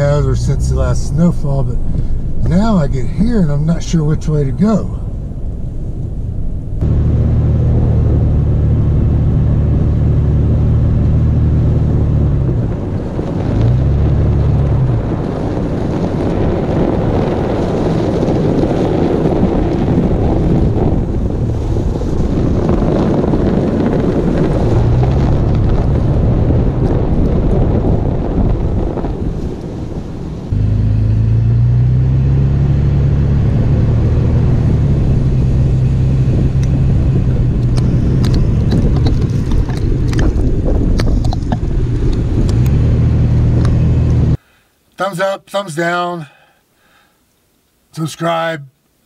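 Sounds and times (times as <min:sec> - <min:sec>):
wind buffeting microphone: 0:00.0 - 0:44.4
car engine at low speed: 0:00.0 - 0:44.6.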